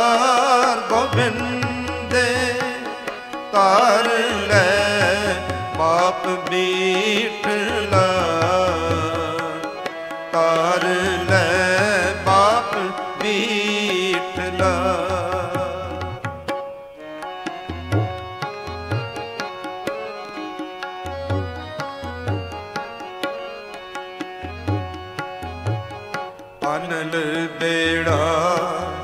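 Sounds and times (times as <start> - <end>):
harmonium: 0.0 - 29.0
wavering wordless melody: 0.0 - 29.0.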